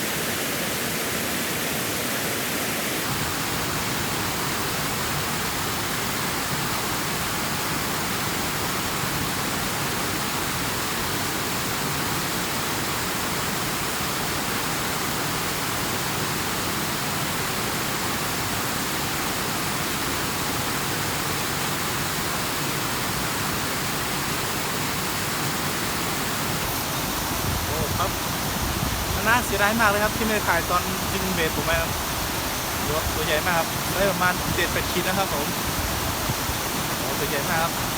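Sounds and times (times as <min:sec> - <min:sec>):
hiss of running water: 0:00.0 - 0:37.9.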